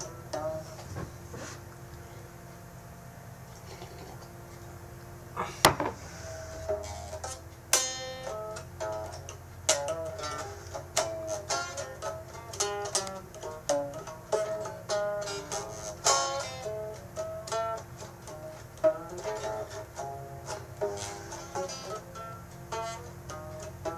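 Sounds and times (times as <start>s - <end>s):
plucked string instrument notes: 0.0s - 1.6s, 5.4s - 23.9s
low steady hum: 0.0s - 23.9s.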